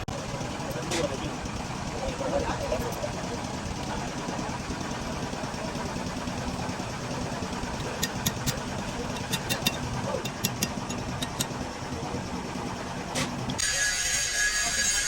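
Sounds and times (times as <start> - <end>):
engine idling: 0.0 - 13.6.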